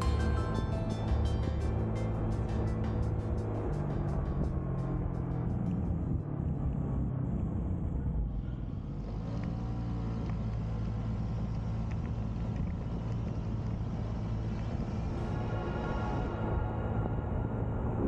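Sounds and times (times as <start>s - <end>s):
car engine drone: 0.0s - 18.0s
tyre and road noise: 0.0s - 18.0s.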